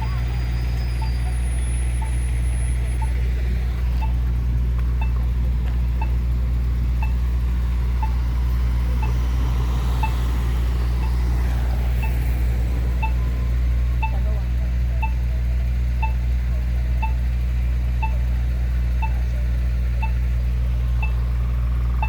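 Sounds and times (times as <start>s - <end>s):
crossing button locator ticking: 0.0s - 22.0s
low traffic rumble: 0.0s - 22.0s.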